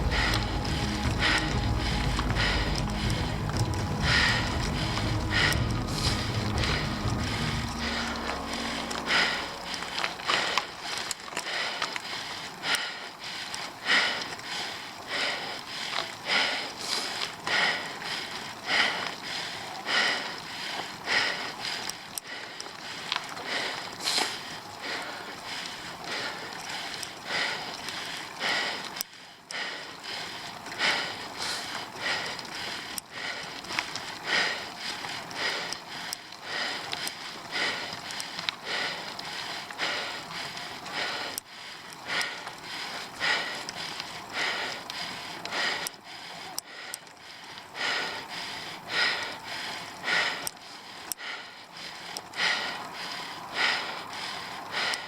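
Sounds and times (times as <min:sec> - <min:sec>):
faint clicks: 0:00.0 - 0:47.7
hard rhythmic breathing: 0:00.0 - 0:55.0.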